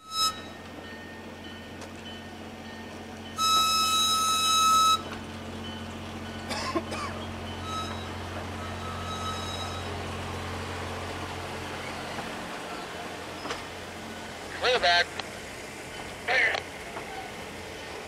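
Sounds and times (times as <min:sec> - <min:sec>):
idling engine hum: 0:00.6 - 0:18.0.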